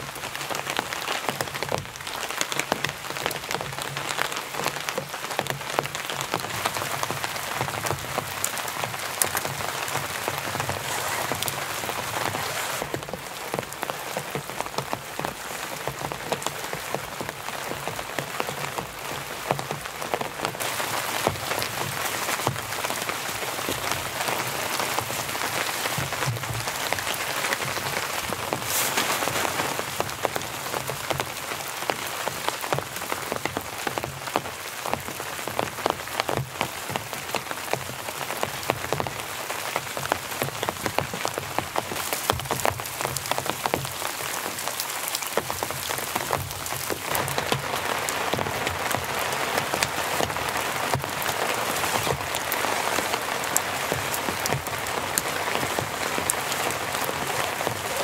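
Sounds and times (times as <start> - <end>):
rain pattering on tent fabric: 0.0 - 58.0.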